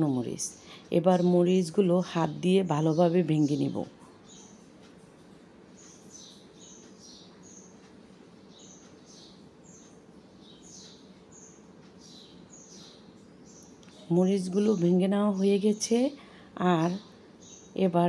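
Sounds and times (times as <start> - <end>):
small bird chirping: 2.1 - 17.9.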